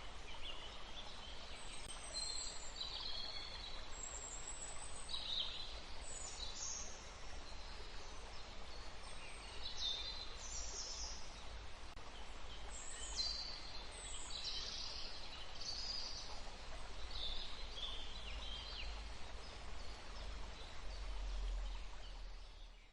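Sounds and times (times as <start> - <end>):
stream rushing: 0.0 - 22.5.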